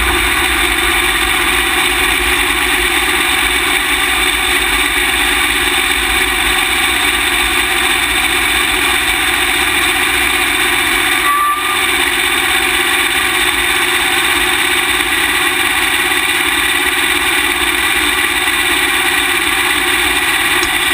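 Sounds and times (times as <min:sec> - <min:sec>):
race car engine running at low revs: 0:00.0 - 0:20.9.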